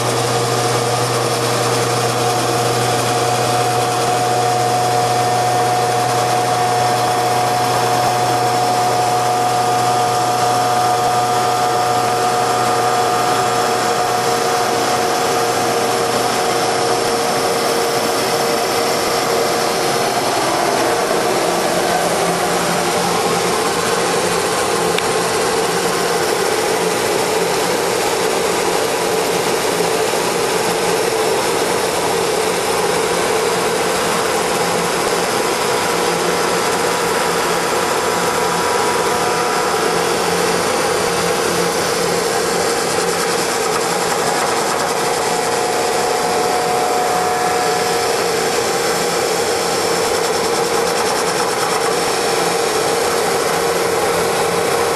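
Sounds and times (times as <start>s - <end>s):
lathe running: 0.0s - 54.9s.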